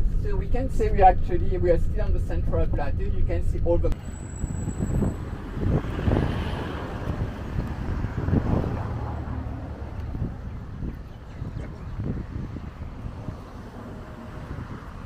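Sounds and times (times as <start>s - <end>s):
road vehicle engine and tyre rumble: 0.0s - 15.0s.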